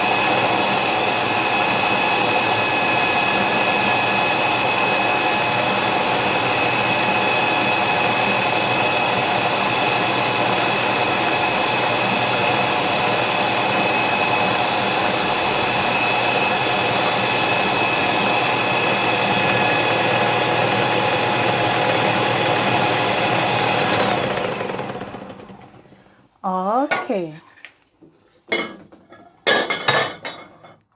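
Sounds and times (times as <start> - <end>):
electric mixer whining: 0.0 - 26.1.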